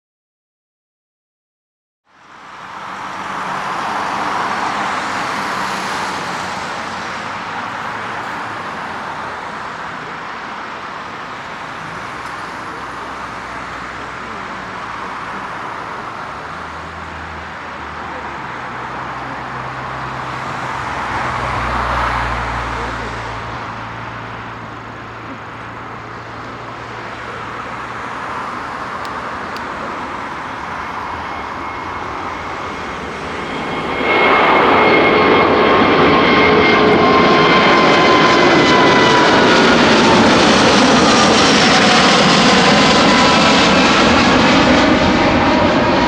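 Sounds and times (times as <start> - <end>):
loud jet engine roar: 2.2 - 46.0.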